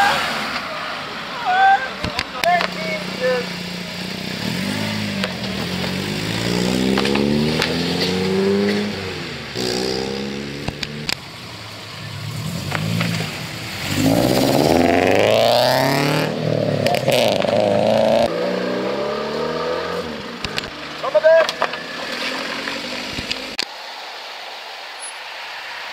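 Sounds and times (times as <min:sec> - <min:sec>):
car engines accelerating: 0:00.0 - 0:25.9.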